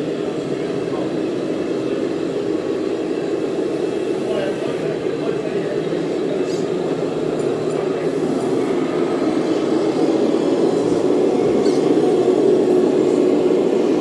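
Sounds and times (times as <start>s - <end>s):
model truck running: 0.0s - 14.0s.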